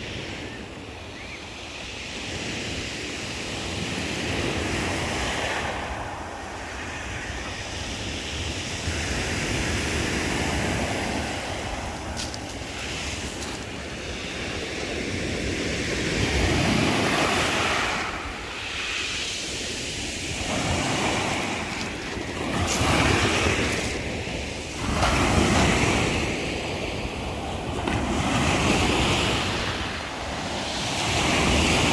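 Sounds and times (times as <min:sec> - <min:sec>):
wind on microphone: 0:00.0 - 0:31.9
sea surf breaking: 0:03.4 - 0:31.9.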